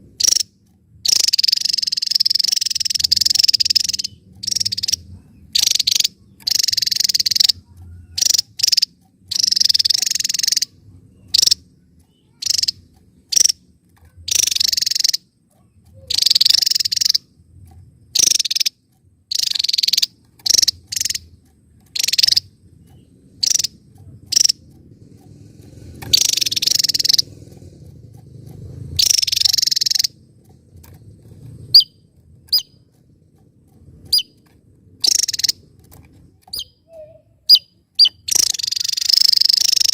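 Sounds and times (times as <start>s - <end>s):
bird buzzy rattling calls: 0.0s - 39.9s
bird sharp chips: 0.1s - 39.9s.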